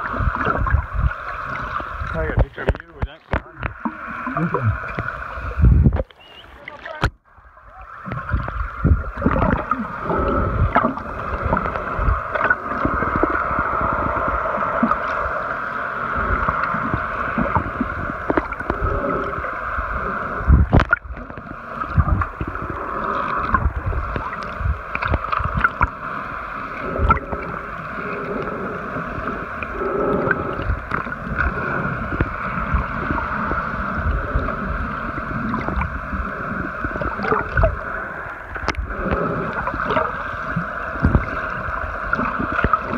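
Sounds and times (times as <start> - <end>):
muffled underwater hum: 0.0 - 42.9
underwater gurgling: 0.0 - 42.9.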